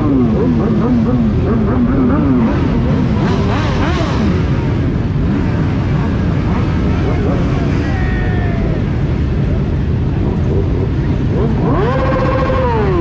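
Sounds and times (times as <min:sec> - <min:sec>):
motorcycle throttle revs: 0:00.0 - 0:07.8, 0:09.4 - 0:13.0
motorcycle engines rumbling: 0:00.0 - 0:13.0.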